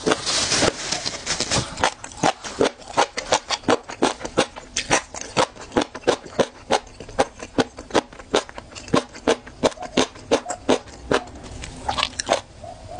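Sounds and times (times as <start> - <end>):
person chewing with wet smacks: 1.8 - 12.4.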